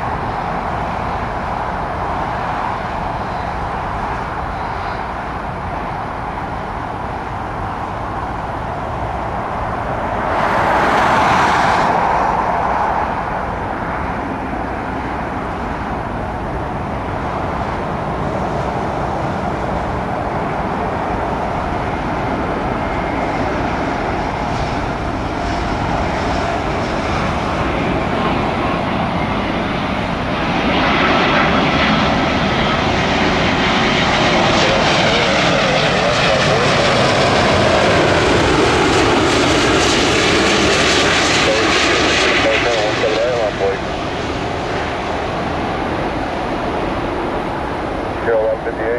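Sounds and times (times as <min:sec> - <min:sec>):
high engine whine: 0:00.0 - 0:48.9
jet engines roaring: 0:00.0 - 0:48.9.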